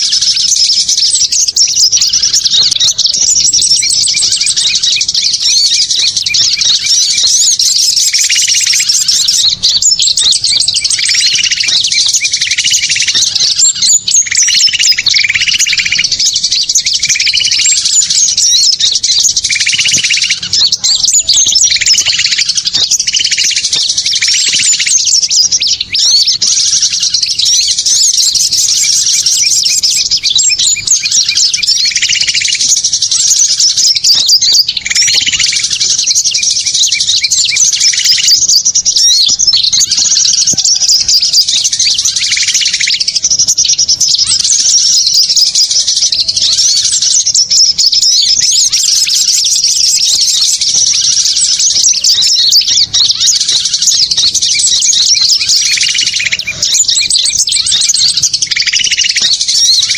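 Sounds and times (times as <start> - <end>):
lower bird chirping phrase: 0.0 - 59.9
songbirds chirping and twittering: 0.0 - 59.9.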